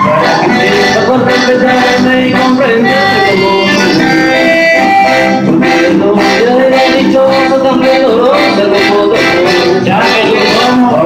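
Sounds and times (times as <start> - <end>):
live band with accordion and guitars: 0.0 - 11.0.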